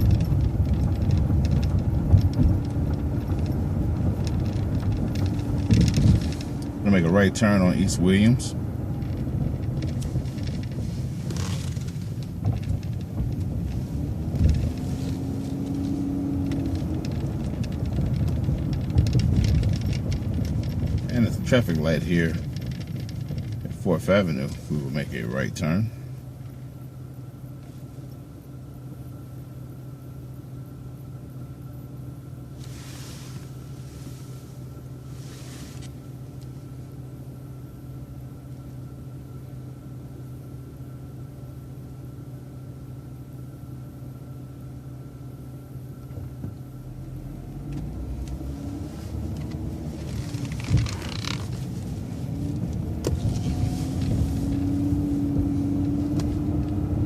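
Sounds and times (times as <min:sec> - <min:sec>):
bus engine idling and accelerating: 0:00.0 - 0:57.0.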